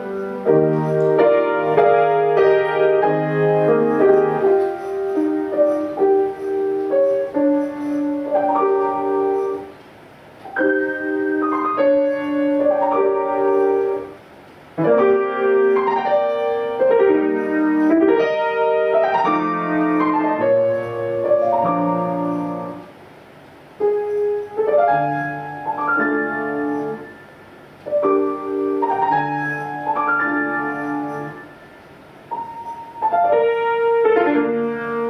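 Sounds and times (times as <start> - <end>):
piano playing chords and melody: 0.0 - 9.8, 10.4 - 23.0, 23.8 - 35.0.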